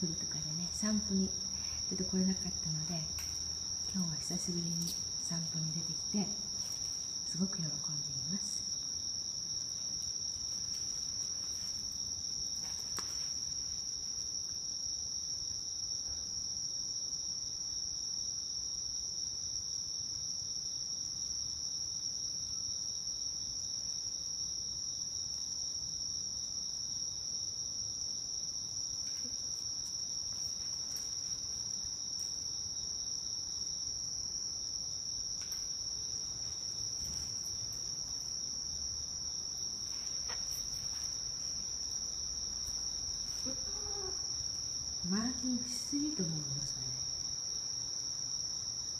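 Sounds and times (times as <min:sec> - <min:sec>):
night insects chorus: 0:00.0 - 0:48.9.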